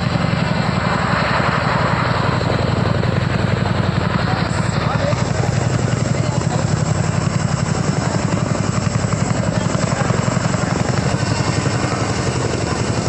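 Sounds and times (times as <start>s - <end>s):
helicopter engine noise: 0.0s - 13.0s
helicopter rotor chopping: 0.0s - 13.0s.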